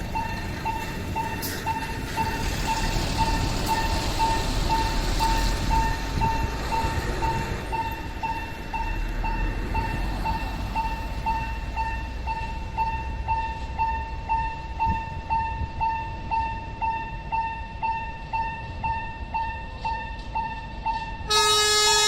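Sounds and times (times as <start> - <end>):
level crossing warning bell: 0.0 - 22.0.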